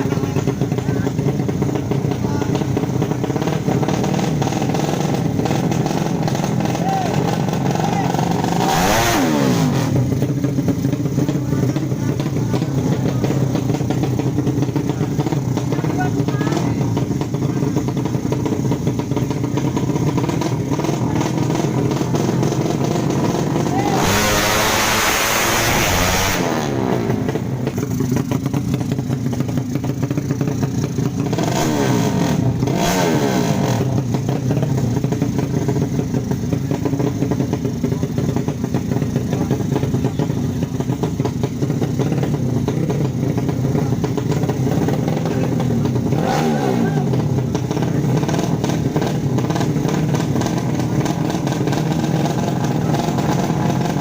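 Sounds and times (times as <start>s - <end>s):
motorcycle engines revving high: 0.0s - 54.0s.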